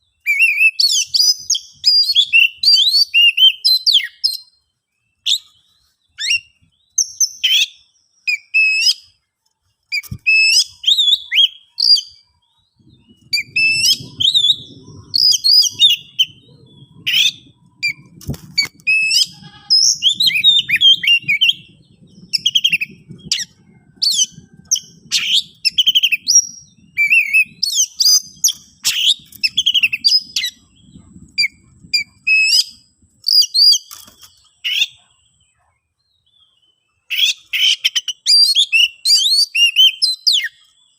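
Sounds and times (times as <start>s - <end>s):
bird singing chirps and whistles: 0.0s - 9.2s, 9.9s - 40.9s.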